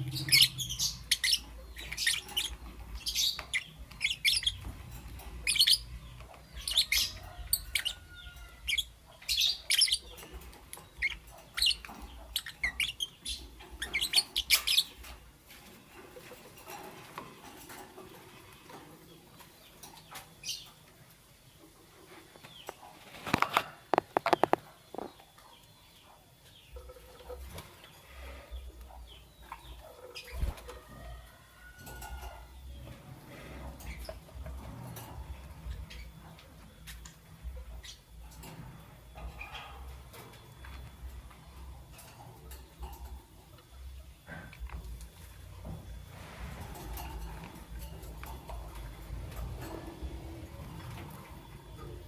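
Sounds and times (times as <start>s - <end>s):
lovebirds chirping: 0.0s - 45.8s.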